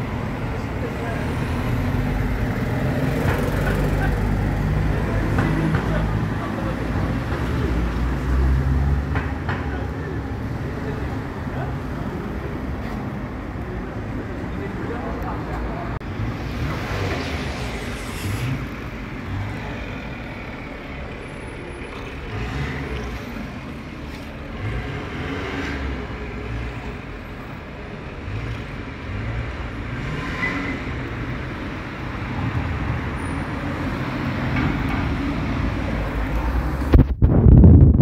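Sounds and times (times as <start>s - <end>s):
road traffic rumble: 0.0s - 38.0s
engines revving: 0.1s - 27.2s, 28.0s - 33.1s.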